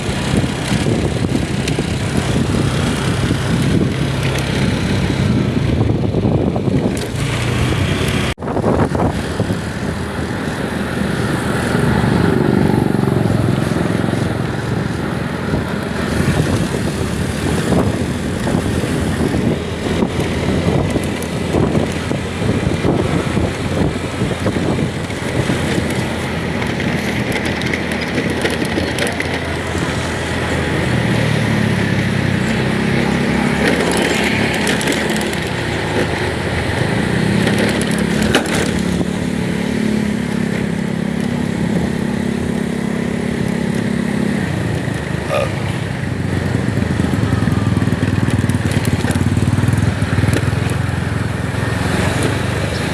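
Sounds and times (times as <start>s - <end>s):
vehicle engine and road noise: 0.0s - 52.9s.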